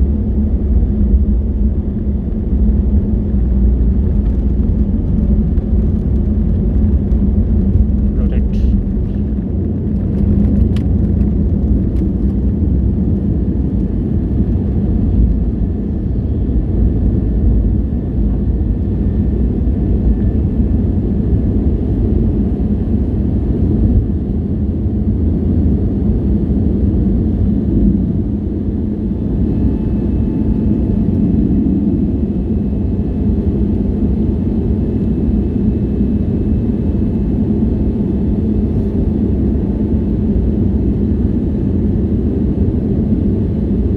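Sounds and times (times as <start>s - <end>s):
aircraft engine cabin rumble: 0.0s - 43.9s.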